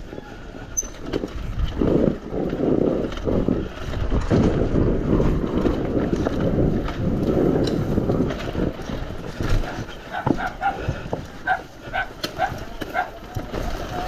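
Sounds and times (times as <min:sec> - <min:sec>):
dirt bike engine: 0:00.0 - 0:14.0
wind buffeting microphone: 0:00.0 - 0:14.0.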